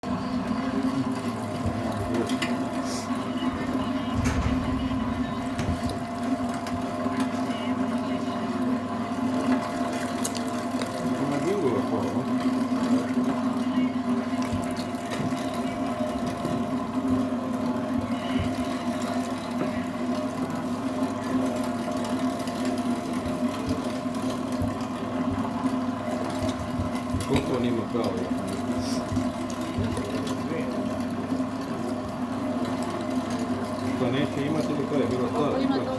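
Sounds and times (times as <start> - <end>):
meat grinder motor humming: 0.1 - 35.9.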